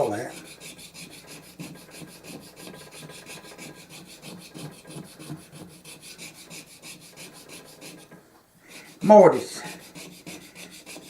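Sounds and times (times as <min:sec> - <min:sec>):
scraping strokes on wooden bowl: 0:00.0 - 0:11.0.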